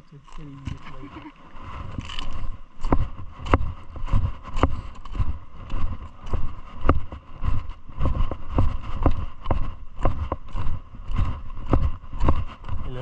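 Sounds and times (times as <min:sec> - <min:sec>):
footsteps on gravel: 0:00.3 - 0:13.0.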